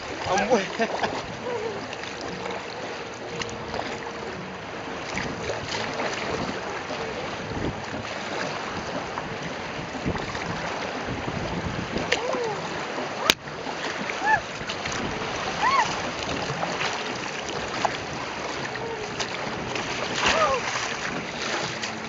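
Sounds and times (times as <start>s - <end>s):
river water rushing and splashing: 0.0s - 22.0s
wind noise on microphone: 0.0s - 22.0s.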